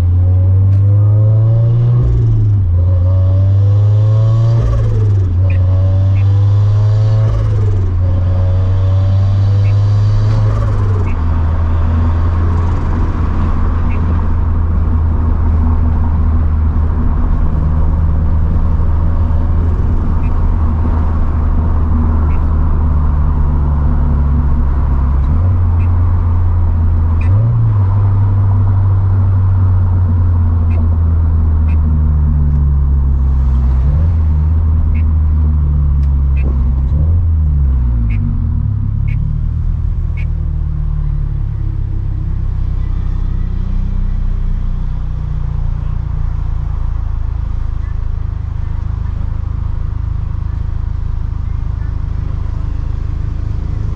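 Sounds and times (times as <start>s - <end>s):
car engine cruising: 0.0s - 53.9s.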